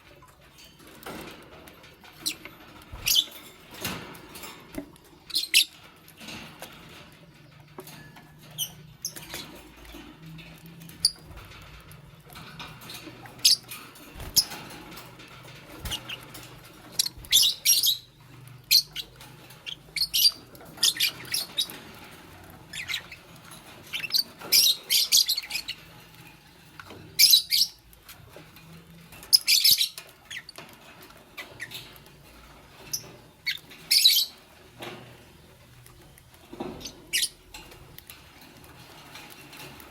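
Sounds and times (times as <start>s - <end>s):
birds shrill chirping: 2.0s - 28.3s, 28.9s - 39.9s.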